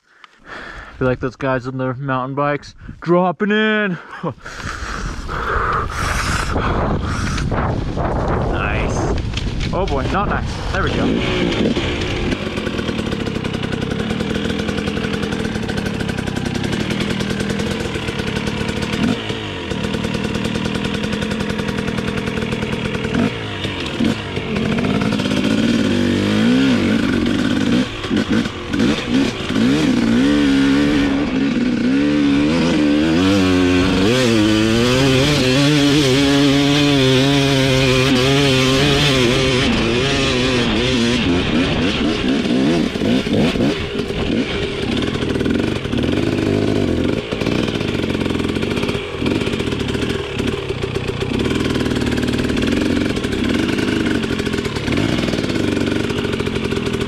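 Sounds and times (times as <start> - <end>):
dirt bike engine revving: 4.5 - 57.0.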